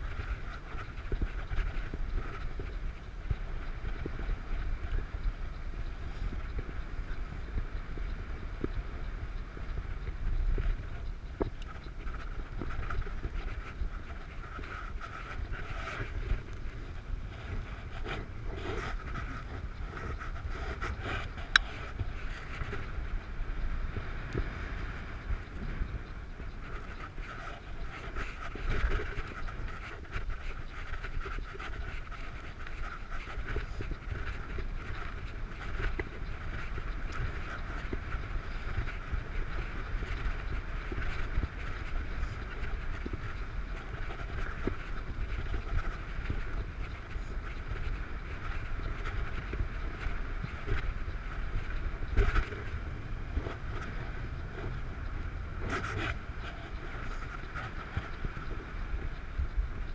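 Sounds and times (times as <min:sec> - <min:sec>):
bicycle tyres on wet road: 0:00.0 - 0:59.9
wind rushing over microphone: 0:00.0 - 0:59.9.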